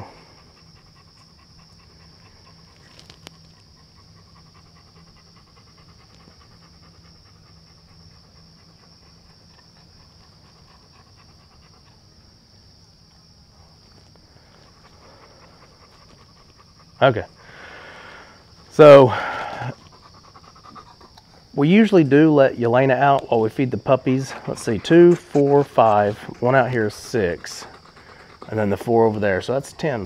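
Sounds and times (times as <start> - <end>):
dog panting: 0.0 - 30.0.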